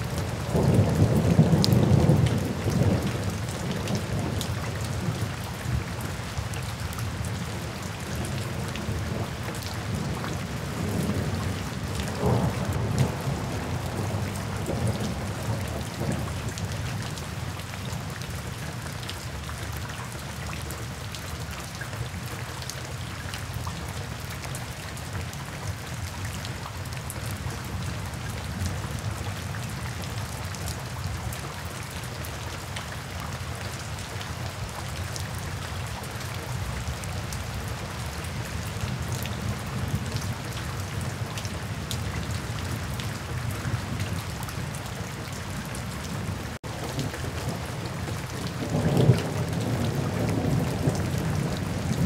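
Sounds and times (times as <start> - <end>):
rain on wet pavement: 0.0 - 52.0.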